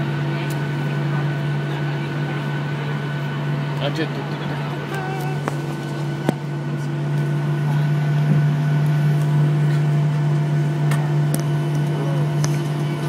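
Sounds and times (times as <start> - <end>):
jet engines idling drone: 0.0 - 13.0.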